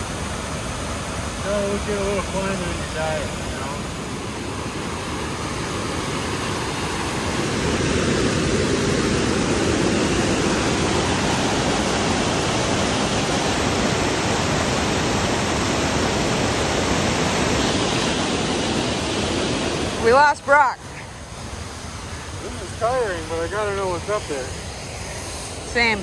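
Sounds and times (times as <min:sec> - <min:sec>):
water rushing over boulders: 0:00.0 - 0:25.8.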